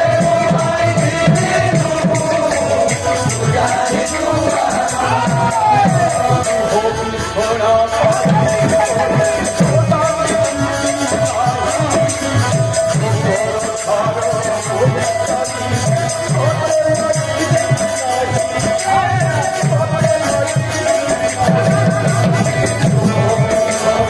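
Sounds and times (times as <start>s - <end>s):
drum beating rhythm: 0.0s - 24.0s.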